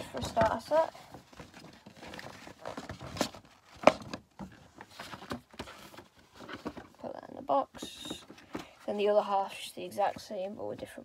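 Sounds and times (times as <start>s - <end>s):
cardboard rustling: 0.0s - 11.0s.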